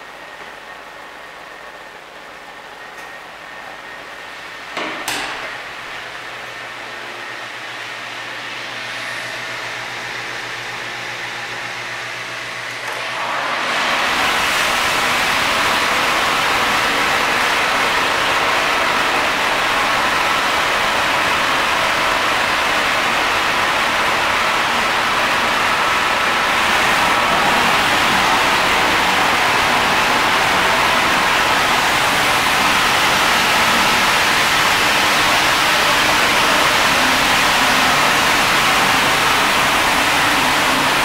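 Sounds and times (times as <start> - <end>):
engine room machinery hum: 0.0 - 41.0.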